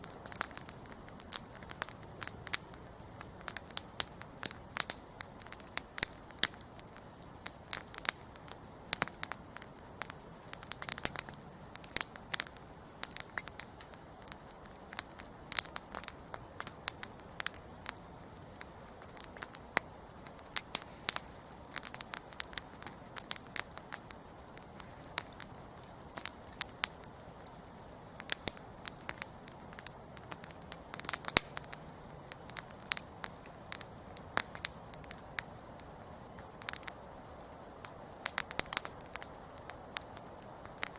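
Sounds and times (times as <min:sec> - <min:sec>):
campfire crackling and popping: 0:00.0 - 0:40.9
faint steady hiss: 0:00.0 - 0:40.9.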